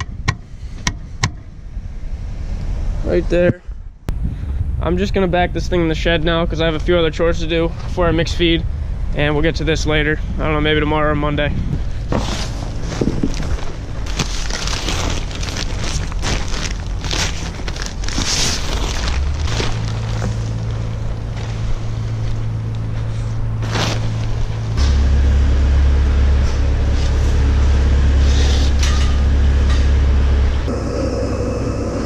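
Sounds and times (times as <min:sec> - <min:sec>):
diesel engine humming: 0:00.0 - 0:32.0.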